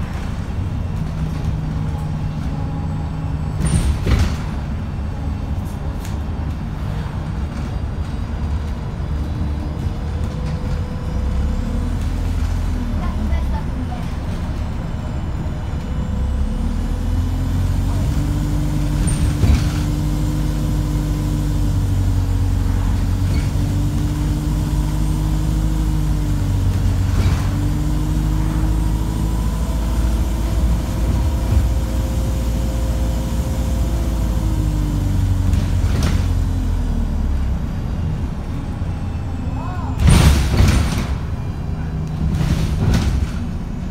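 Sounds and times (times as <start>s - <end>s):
bus engine working hard: 0.0s - 43.9s.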